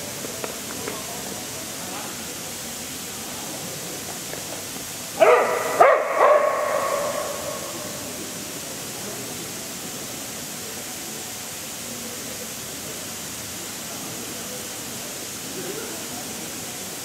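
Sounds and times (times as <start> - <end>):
sprinkler water spray hiss: 0.0 - 17.0.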